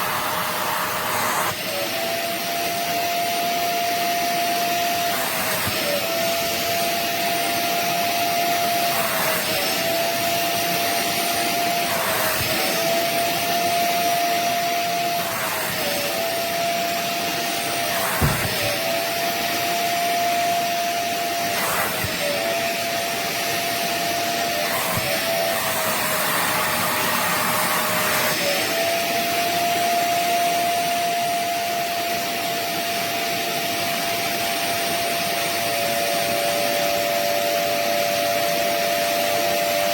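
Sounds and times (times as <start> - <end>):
wet vacuum cleaner whining: 0.0 - 39.9.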